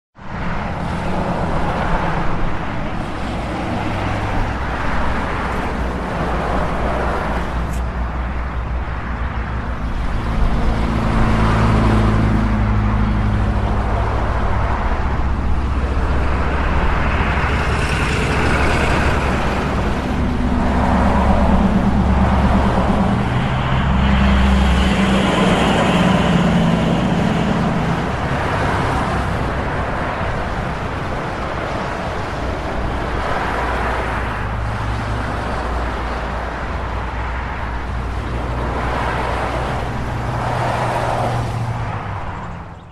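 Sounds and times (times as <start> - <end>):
road traffic rumble: 0.2 - 42.9
vehicles passing close by: 0.2 - 42.9.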